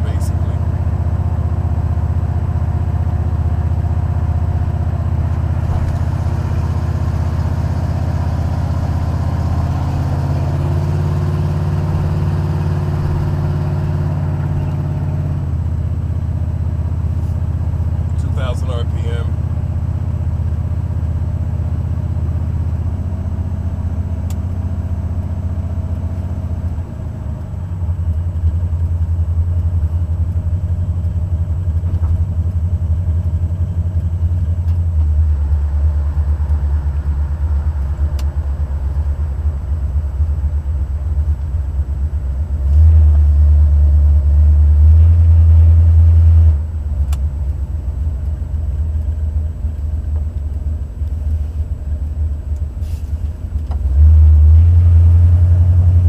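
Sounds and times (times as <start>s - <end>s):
car engine exhaust rumble: 0.0s - 56.0s.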